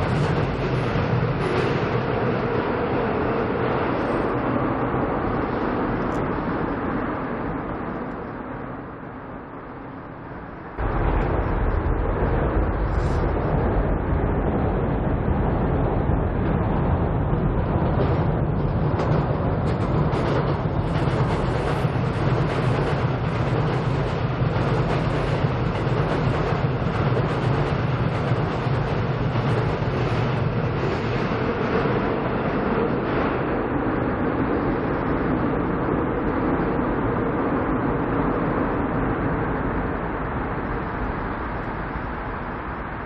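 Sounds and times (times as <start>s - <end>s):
train rumbling over bridge: 0.0s - 43.0s.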